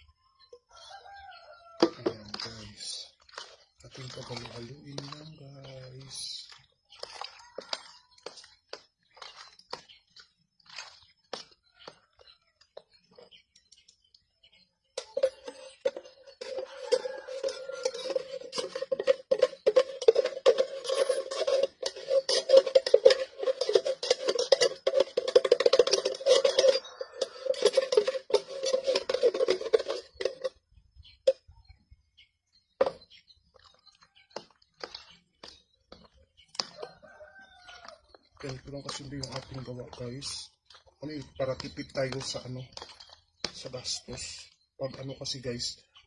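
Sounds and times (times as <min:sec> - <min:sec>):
spoon scraping plastic tub: 0:01.7 - 0:14.1, 0:14.9 - 0:31.4, 0:32.8 - 0:45.5.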